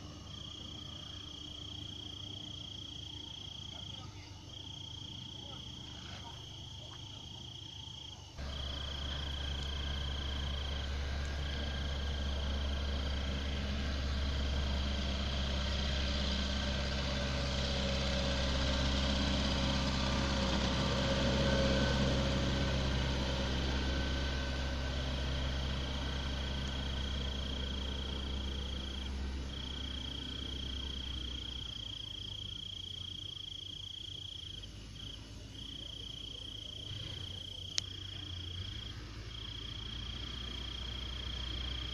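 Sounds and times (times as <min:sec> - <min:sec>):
backhoe engine running: 0:00.0 - 0:41.9
crickets chirping: 0:00.0 - 0:41.9.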